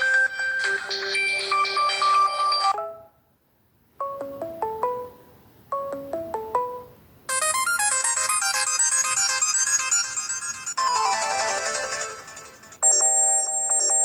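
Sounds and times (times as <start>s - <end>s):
bright electronic ringtone: 0.0s - 3.2s, 4.0s - 14.0s
ringtone melody: 0.0s - 3.2s, 4.0s - 14.0s.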